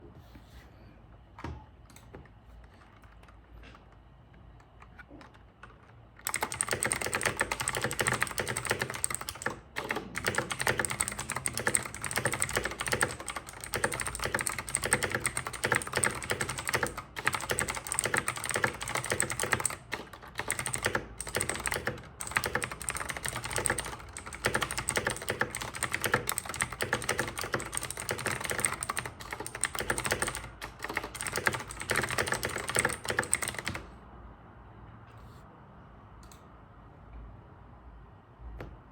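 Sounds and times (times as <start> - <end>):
clicky keyboard typing: 1.9 - 33.9.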